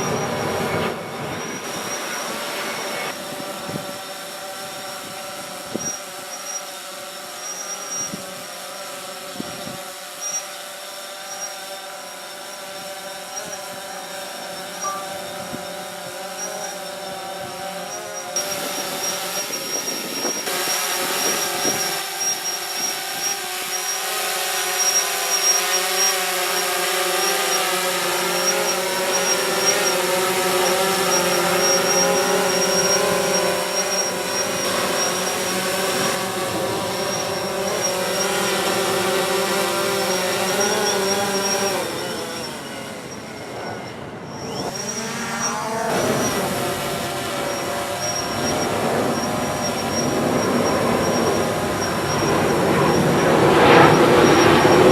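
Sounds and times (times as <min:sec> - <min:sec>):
drone propellers buzzing: 0:00.0 - 0:54.9.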